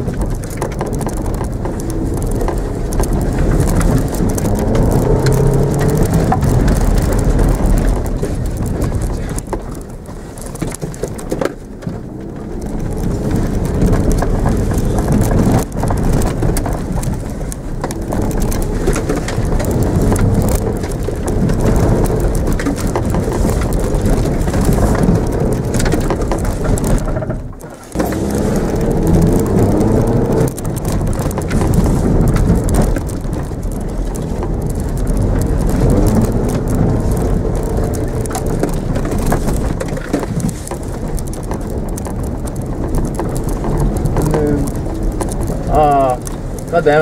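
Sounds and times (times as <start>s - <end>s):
car engine revving: 0.0s - 47.0s
tyres and grit rushing: 0.0s - 47.0s.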